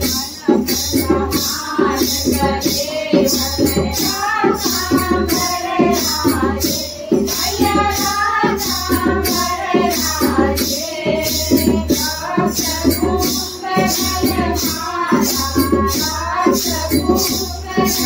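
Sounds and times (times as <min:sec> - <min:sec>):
group of women singing: 0:00.0 - 0:18.0.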